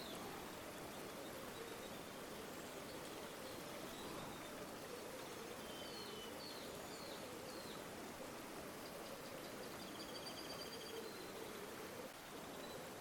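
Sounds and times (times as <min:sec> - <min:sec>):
faint bird chirps: 0:00.0 - 0:07.9, 0:08.8 - 0:13.0.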